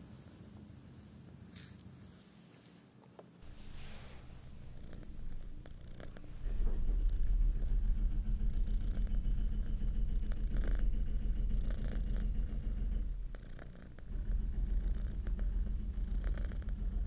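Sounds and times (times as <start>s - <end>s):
kitten purring: 3.0s - 17.0s.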